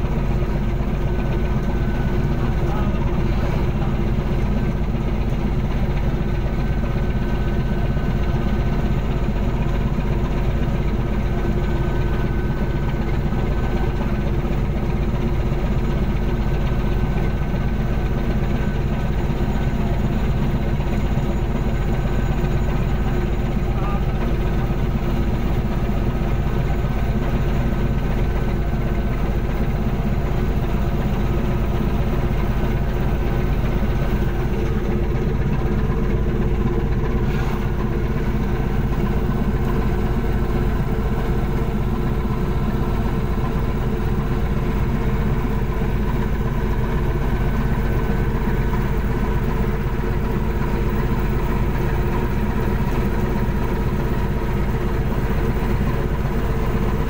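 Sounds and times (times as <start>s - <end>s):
boat engine and machinery drone: 0.0s - 57.0s.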